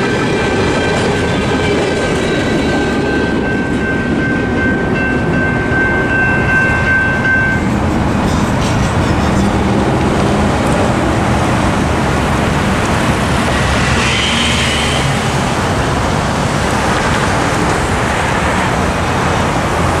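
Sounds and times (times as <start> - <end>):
cars passing: 2.9 - 20.0.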